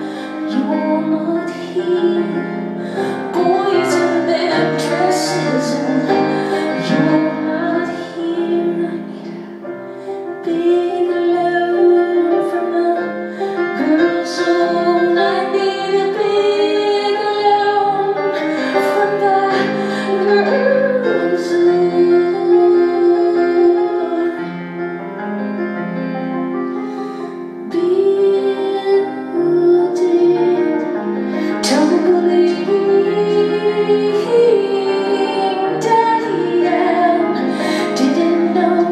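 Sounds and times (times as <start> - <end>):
instrumental accompaniment: 0.0 - 38.9.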